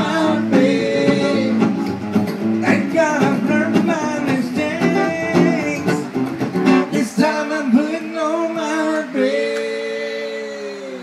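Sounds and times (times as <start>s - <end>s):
man singing: 0.0s - 1.8s, 2.6s - 6.2s, 6.8s - 11.0s
strummed acoustic guitars: 0.0s - 10.1s.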